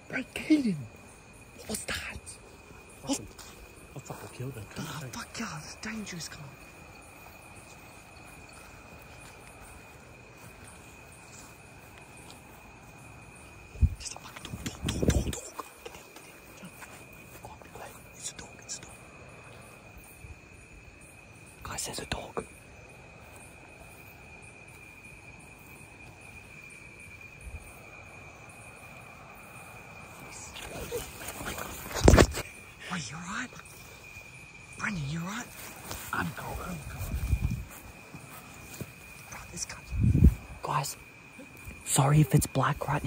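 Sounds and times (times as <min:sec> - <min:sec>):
crickets trilling: 0:00.0 - 0:43.0
faint outdoor hiss: 0:00.0 - 0:43.0.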